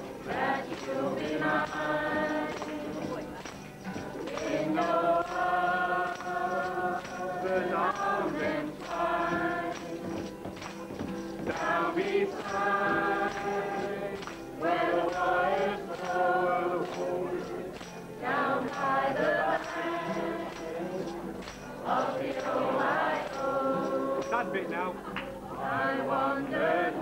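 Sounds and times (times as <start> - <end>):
acoustic guitar strumming: 0.0 - 27.0
group singing folk song: 0.0 - 27.0.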